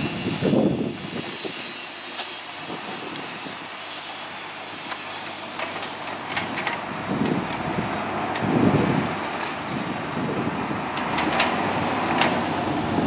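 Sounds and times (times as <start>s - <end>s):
mini excavator running: 0.0s - 13.0s.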